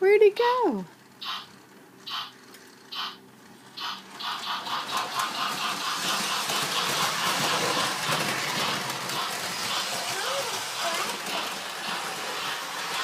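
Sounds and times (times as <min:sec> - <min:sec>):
model train rattling on track: 0:02.1 - 0:13.0.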